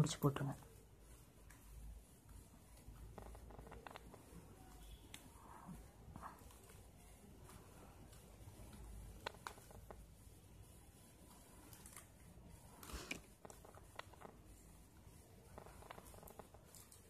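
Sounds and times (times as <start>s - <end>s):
plastic wire clicking and rustling: 1.4s - 10.1s, 11.2s - 17.0s.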